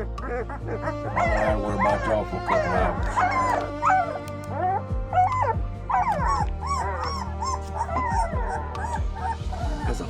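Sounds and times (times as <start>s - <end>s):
puppies whining and squealing: 0.0s - 10.0s.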